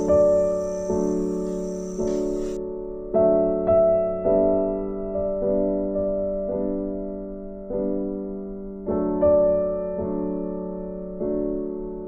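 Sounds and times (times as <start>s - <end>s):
gentle piano chords: 0.0s - 12.0s.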